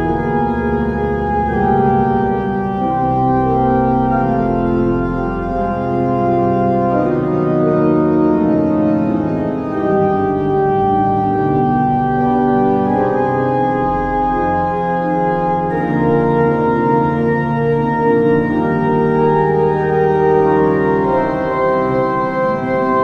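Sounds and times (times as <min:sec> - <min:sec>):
pipe organ playing chords: 0:00.0 - 0:23.0.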